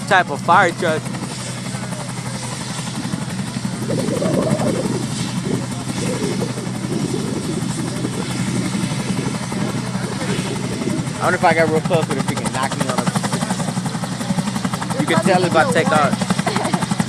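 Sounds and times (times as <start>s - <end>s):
helicopter rotor humming: 0.0s - 17.0s.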